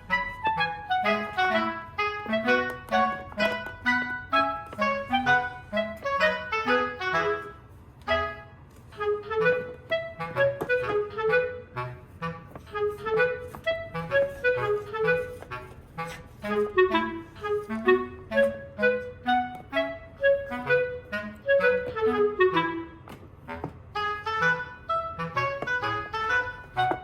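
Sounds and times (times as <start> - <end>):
bouncy instrumental melody: 0.0 - 27.0.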